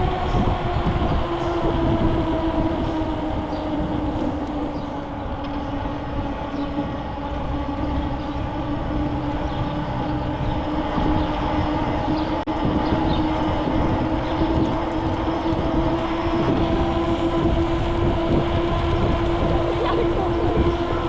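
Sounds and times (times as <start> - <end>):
mechanical whine: 0.0 - 21.0
rough low rumble: 0.0 - 21.0.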